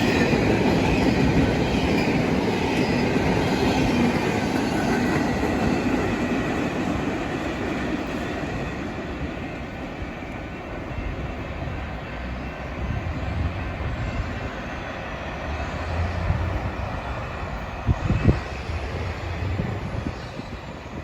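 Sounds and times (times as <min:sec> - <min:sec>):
freight train cars rumbling: 0:00.0 - 0:21.0.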